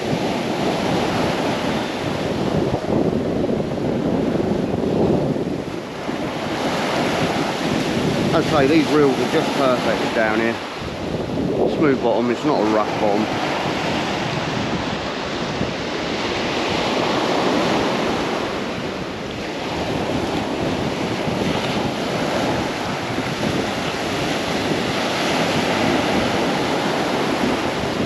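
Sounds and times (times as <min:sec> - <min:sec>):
small waves breaking on beach: 0:00.0 - 0:28.0
wind buffeting microphone: 0:00.0 - 0:28.0.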